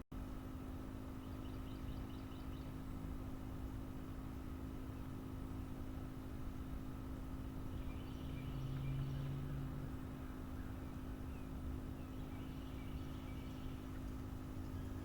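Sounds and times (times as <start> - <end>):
low rumble and hum: 0.2 - 15.0.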